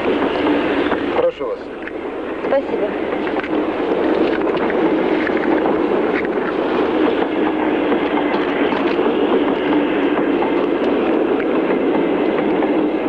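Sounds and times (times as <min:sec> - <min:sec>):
faint clicks from train wheels: 0:00.0 - 0:13.0
train rumbling: 0:00.0 - 0:13.0.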